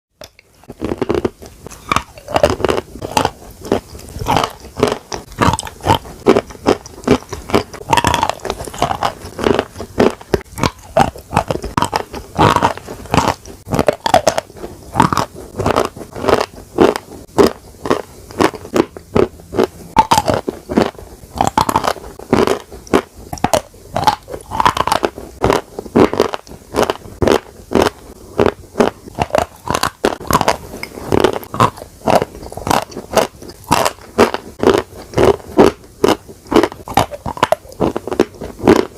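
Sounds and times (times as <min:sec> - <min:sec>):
crackly chewing: 0:00.2 - 0:38.9
chalk crunching between teeth: 0:00.3 - 0:38.9.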